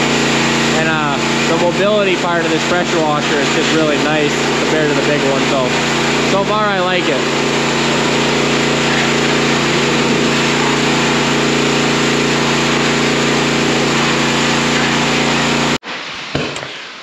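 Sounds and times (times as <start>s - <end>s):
pressure washer engine running: 0.0s - 15.8s.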